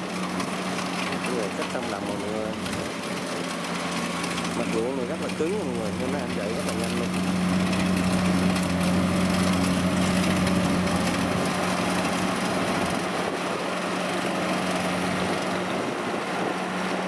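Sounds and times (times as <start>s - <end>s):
diesel engine hum: 0.0s - 17.0s
threshing machinery clatter: 0.0s - 17.0s.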